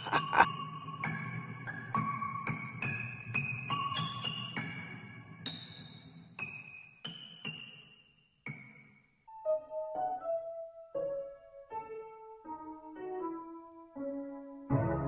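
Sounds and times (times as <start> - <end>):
slow piano music: 0.5 - 7.8, 8.4 - 15.0.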